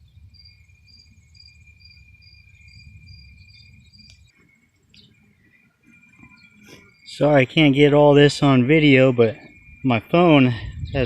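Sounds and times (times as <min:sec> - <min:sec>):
high insect chirp: 0:00.0 - 0:11.0
insects trilling: 0:00.0 - 0:11.0.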